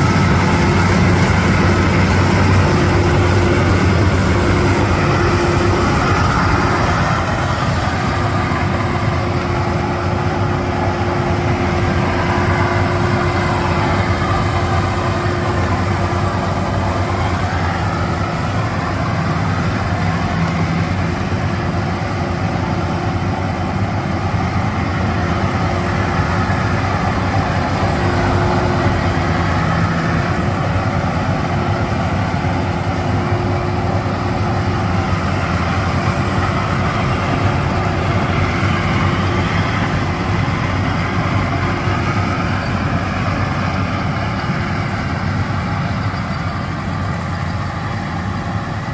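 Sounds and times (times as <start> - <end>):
combine harvester running: 0.0 - 48.9.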